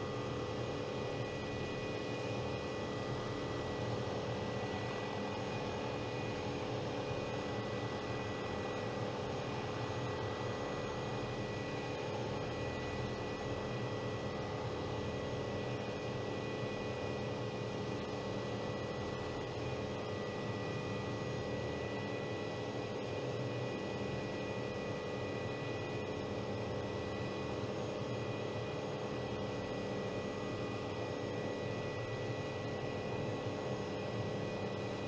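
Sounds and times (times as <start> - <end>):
helicopter engine and rotor noise: 0.0 - 35.0.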